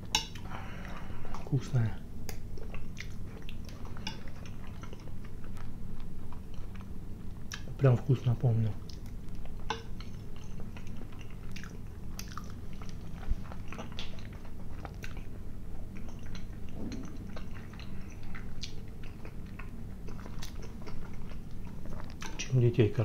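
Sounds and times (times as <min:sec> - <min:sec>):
man chewing food: 0:00.0 - 0:07.8, 0:08.7 - 0:22.6.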